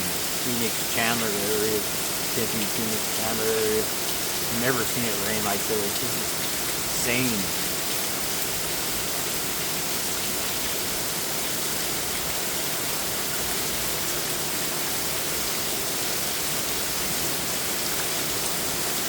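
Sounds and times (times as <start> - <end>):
very heavy rain pouring: 0.0 - 19.0.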